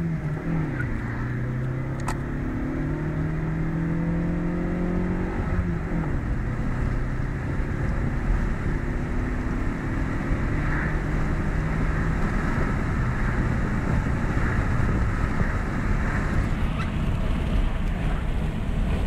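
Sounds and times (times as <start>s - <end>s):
car engine accelerating: 0.0s - 19.0s
heavy wind and road noise: 0.0s - 19.0s.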